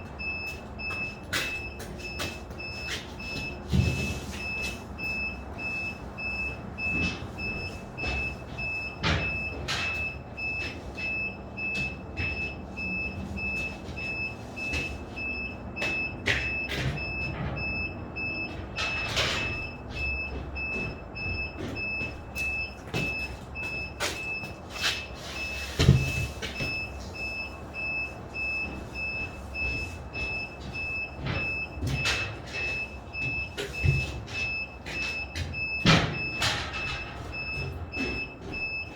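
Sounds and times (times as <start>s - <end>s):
high electronic warning beep: 0.1s - 38.9s.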